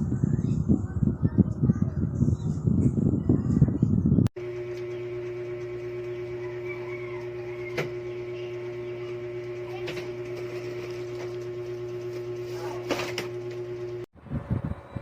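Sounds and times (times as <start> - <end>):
electric fan motor hum: 0.0 - 15.0.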